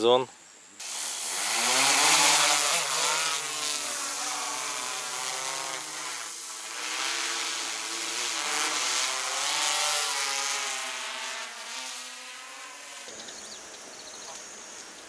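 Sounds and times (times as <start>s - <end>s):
drone rotors whining: 0.8s - 14.8s.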